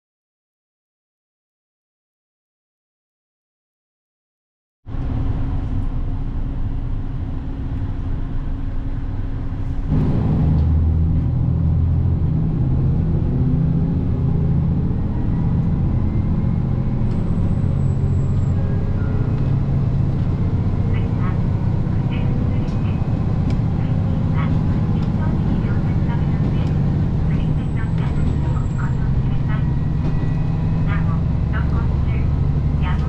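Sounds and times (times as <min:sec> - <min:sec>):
vehicle engine rumbling: 0:04.9 - 0:33.0.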